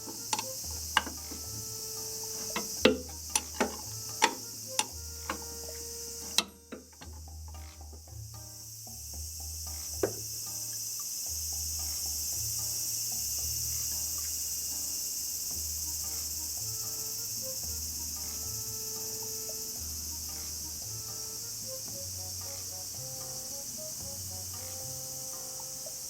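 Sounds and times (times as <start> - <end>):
music with pulsing bass line: 0.0 - 14.7, 15.5 - 26.0
high-pitched insect chorus: 0.0 - 26.0.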